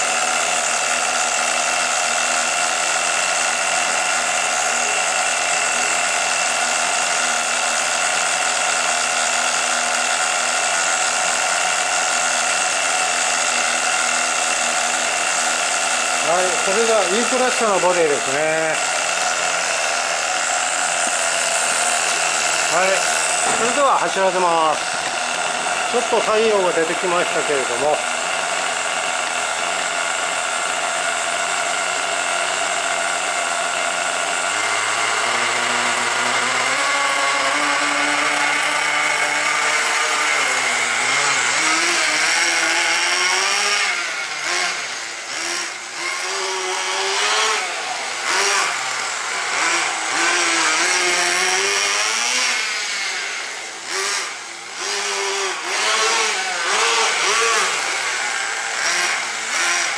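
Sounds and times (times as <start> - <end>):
small nitro engine revving: 0.0 - 59.9.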